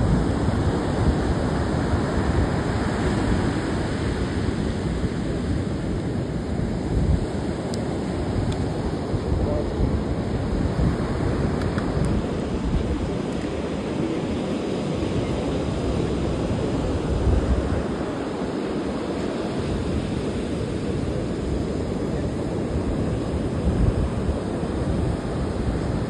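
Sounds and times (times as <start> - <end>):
surf roaring on beach: 0.0 - 26.0
wind buffeting microphone: 0.0 - 26.0.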